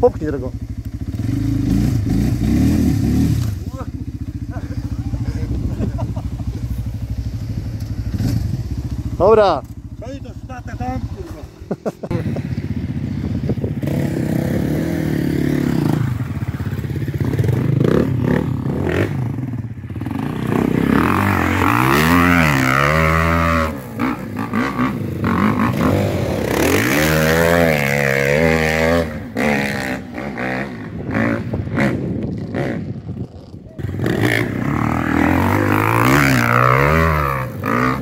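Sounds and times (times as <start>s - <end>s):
off-road vehicle engine revving: 0.0s - 11.8s, 13.8s - 16.6s, 17.2s - 19.4s, 20.0s - 32.9s, 33.8s - 38.0s.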